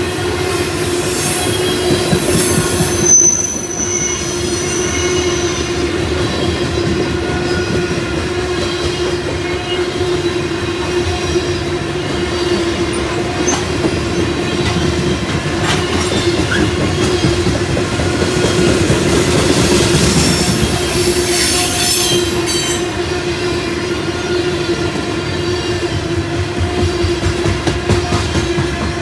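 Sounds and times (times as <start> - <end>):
wheels whining on rails: 0.0 - 29.0.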